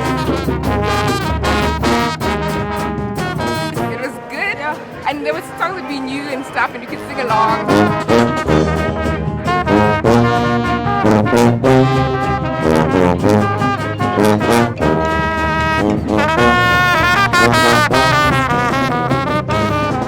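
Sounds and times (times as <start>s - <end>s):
steady bass: 0.0s - 4.0s, 7.2s - 20.0s
brass horns playing melody: 0.0s - 20.0s.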